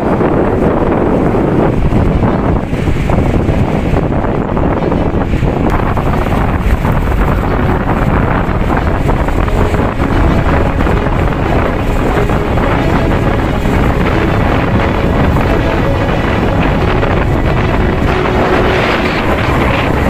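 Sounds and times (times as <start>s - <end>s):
surf breaking on shore: 0.0s - 20.0s
wind buffeting microphone: 0.0s - 20.0s.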